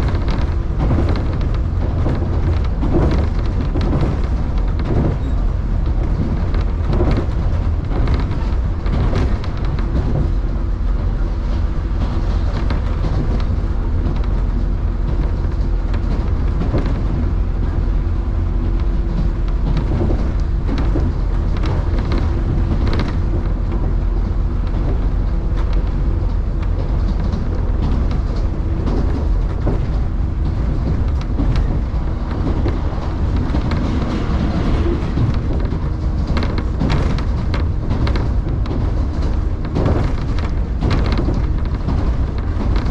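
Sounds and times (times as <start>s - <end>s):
train wheels rumbling on rail: 0.0s - 42.9s
wheels clicking over rail joints: 0.0s - 42.9s.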